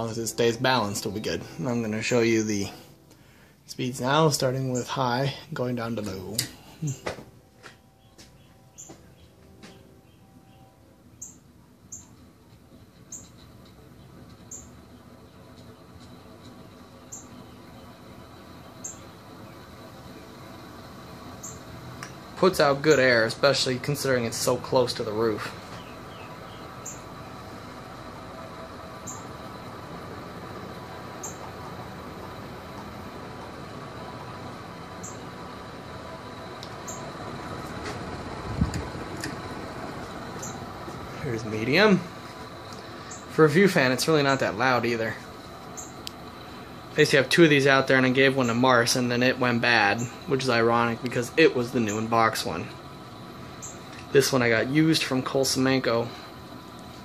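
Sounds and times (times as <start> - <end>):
ceiling fan air rushing: 0.0 - 57.0
faint motor hum: 0.0 - 57.0.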